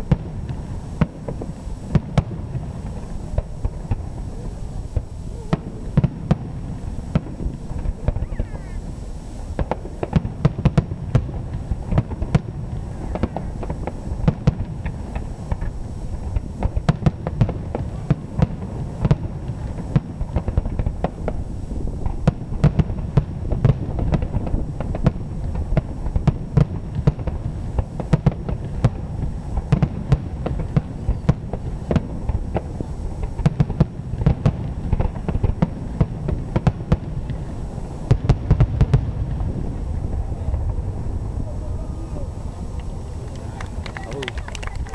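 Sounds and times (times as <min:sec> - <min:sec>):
firework shells bursting: 0:00.0 - 0:40.8.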